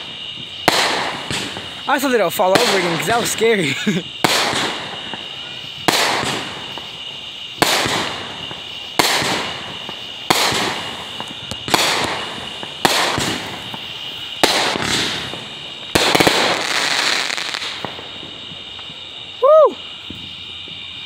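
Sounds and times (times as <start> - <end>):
fireworks bangs and crackle: 0.0 - 21.0.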